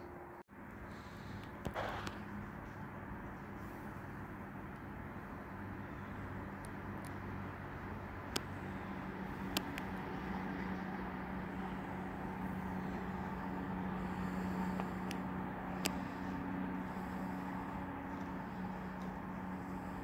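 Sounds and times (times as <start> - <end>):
distant engine hum: 0.0 - 20.0.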